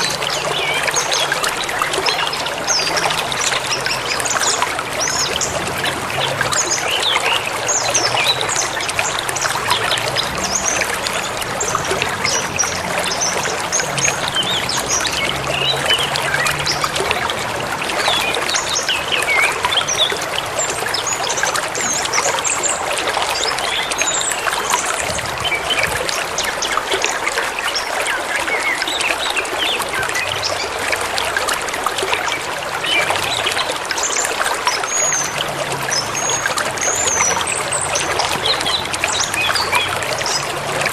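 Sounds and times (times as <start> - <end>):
river babbling over stones: 0.0 - 40.9.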